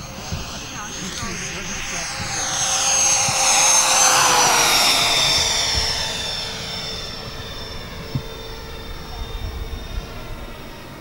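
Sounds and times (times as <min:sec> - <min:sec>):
model plane fans whining: 0:00.0 - 0:11.0.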